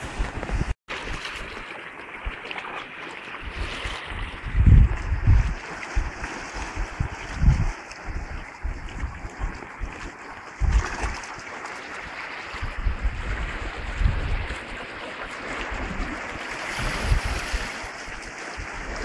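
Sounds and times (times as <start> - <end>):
wind buffeting microphone: 0.0 - 1.6, 3.4 - 19.0
waves splashing against rocks: 0.0 - 19.0.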